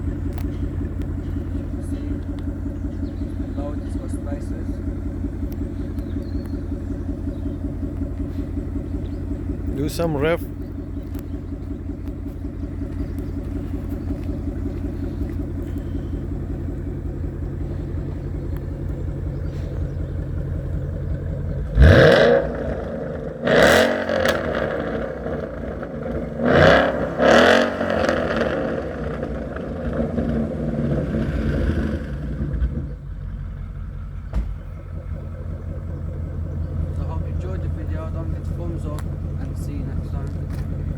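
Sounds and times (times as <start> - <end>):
engine revving blips: 0.0 - 33.0
car engine idling: 0.0 - 40.9.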